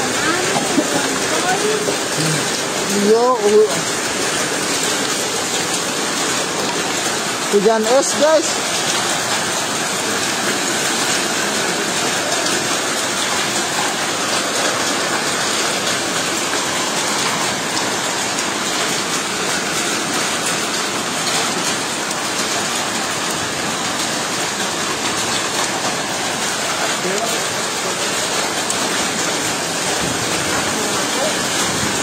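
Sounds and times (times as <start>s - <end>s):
hailstones ticking: 0.0s - 32.0s
heavy rain on paving: 0.0s - 32.0s.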